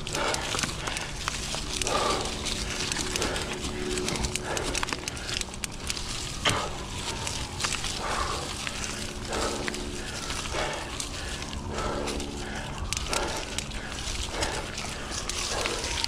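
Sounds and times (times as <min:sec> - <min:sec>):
bike tyre and drivetrain noise: 0:00.0 - 0:16.0
rider breathing hard: 0:00.0 - 0:16.0.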